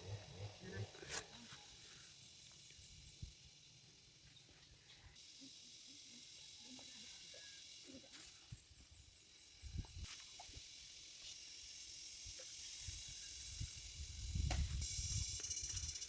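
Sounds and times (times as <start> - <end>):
high-pitched outdoor hiss: 0.0 - 16.0.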